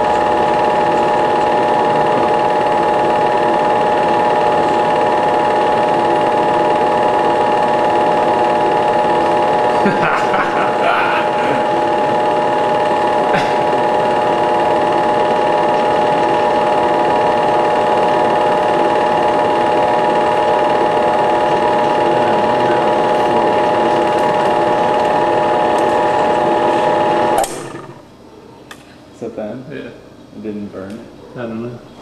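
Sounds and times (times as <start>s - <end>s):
projector motor whine: 0.0s - 32.0s
film projector mechanism clatter: 0.1s - 9.8s, 11.7s - 28.0s.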